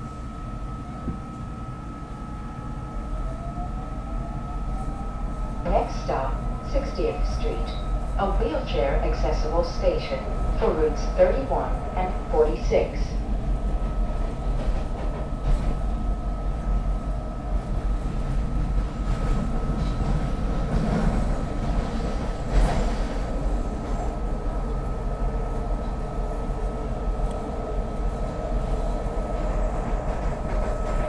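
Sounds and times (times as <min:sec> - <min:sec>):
train wheels rumbling on rails: 0:04.1 - 0:31.0.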